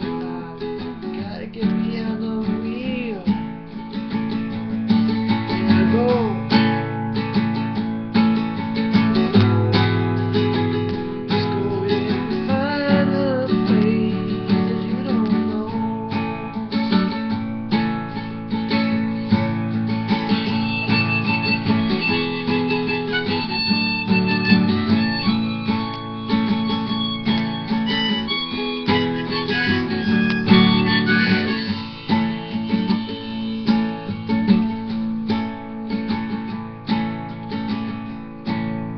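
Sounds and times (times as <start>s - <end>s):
classical guitar strummed and picked: 0.0s - 38.9s.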